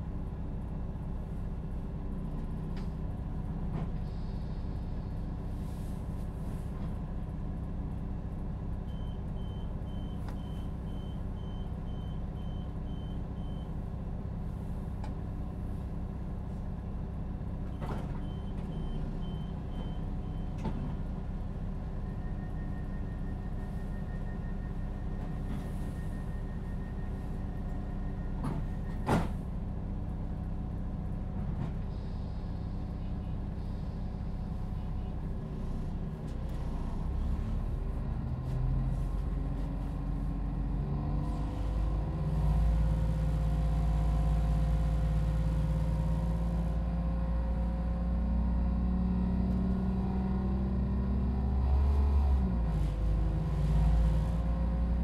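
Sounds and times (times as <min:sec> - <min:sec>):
diesel train engine idling: 0:00.0 - 0:48.8.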